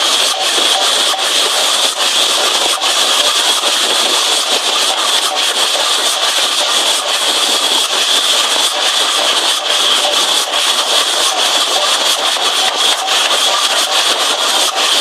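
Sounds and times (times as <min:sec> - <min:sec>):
train rushing hiss: 0:00.0 - 0:15.0.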